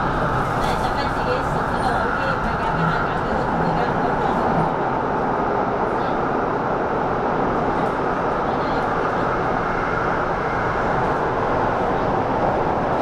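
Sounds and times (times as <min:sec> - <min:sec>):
electric train wheel and track roar: 0:00.0 - 0:13.0.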